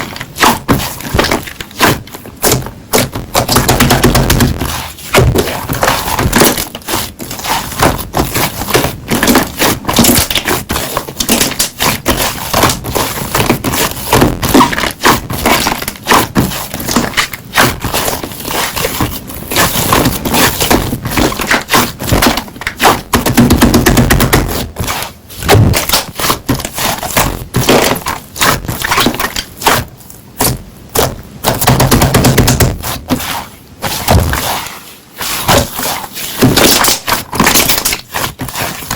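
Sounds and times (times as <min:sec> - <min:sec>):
slime popping and crackling: 0:00.0 - 0:33.0, 0:35.2 - 0:38.9.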